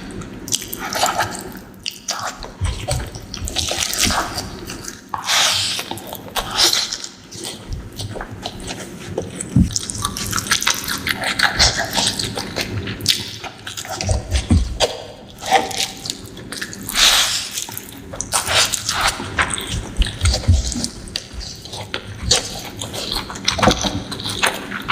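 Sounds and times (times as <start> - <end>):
wet chewing: 0.0 - 24.9.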